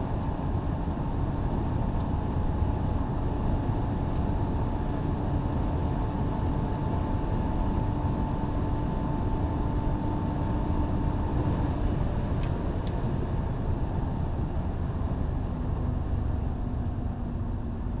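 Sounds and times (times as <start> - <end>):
car engine running at high speed: 0.0 - 18.0
road and wind noise: 0.0 - 18.0.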